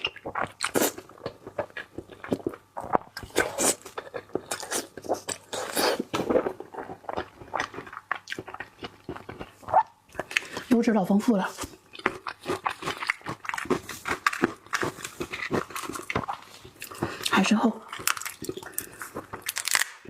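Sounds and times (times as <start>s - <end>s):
wet chewing and mouth smacking: 0.0s - 10.7s, 11.6s - 20.0s.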